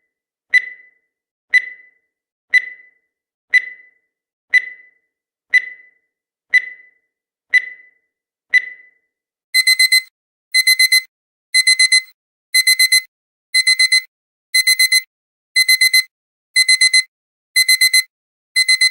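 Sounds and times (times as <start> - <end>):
timer ticking: 0.5 - 5.9, 6.5 - 6.9, 7.5 - 7.9, 9.6 - 18.9
digital alarm clock beeping: 0.5 - 18.9.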